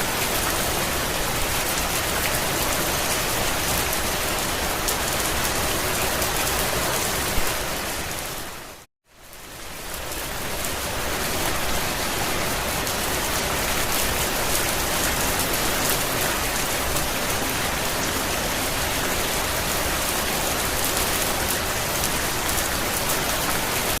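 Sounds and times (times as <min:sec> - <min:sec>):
rain on a vehicle roof: 0:00.0 - 0:24.0.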